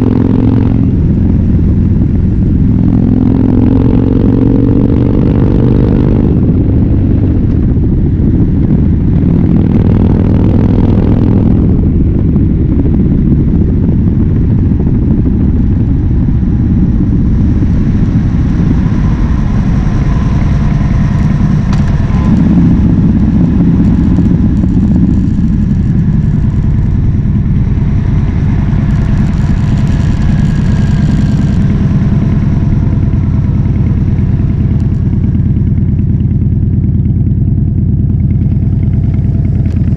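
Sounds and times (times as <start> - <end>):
loud motorcycle engine revving: 0.0 - 39.9.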